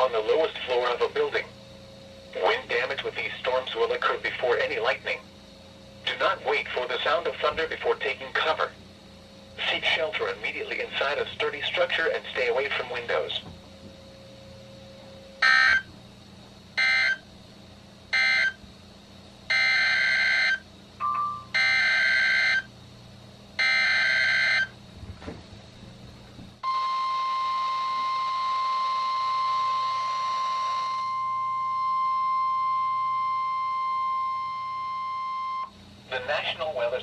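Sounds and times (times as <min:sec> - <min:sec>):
steady warning alarm tone: 0:00.0 - 0:18.7, 0:19.4 - 0:22.8, 0:23.5 - 0:24.8, 0:26.6 - 0:36.6.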